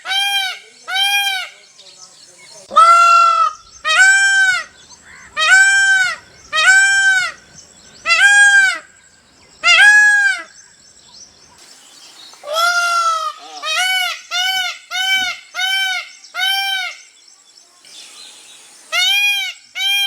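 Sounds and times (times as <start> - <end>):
peacock calling: 0.0 - 20.0.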